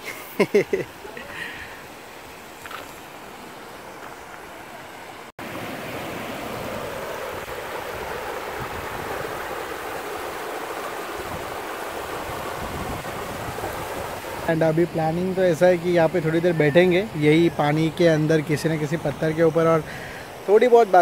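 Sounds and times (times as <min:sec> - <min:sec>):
stream rushing over stones: 0:00.0 - 0:21.0.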